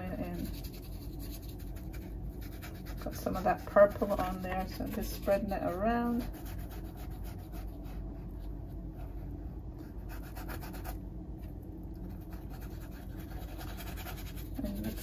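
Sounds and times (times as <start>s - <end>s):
paintbrush scrubbing on canvas: 0.0s - 11.0s, 12.2s - 15.0s.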